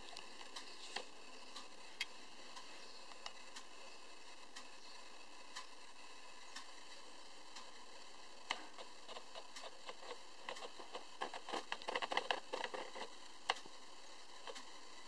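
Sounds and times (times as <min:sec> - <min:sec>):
faint steady hiss: 0:00.0 - 0:15.0
small clicks and ticks: 0:00.0 - 0:15.0.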